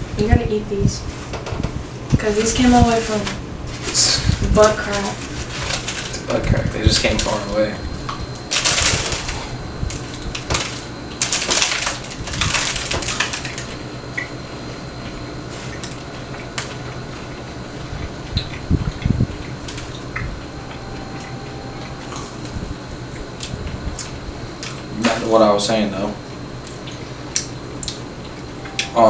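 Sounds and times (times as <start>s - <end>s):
fan-like hum: 0.0s - 29.0s.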